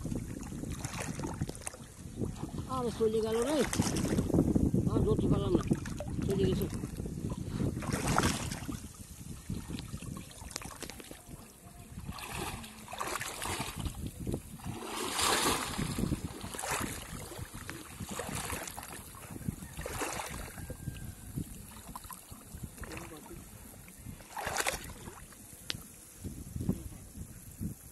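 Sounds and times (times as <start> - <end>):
shallow water sloshing and splashing: 0.0 - 4.6, 5.2 - 26.1.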